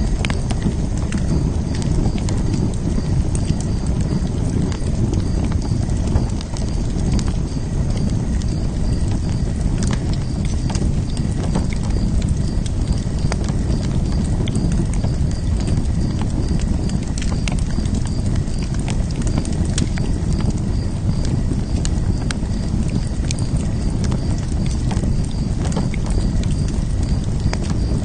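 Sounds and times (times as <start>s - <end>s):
fire pops and snaps: 0.0s - 28.0s
open fire crackling: 0.0s - 28.0s.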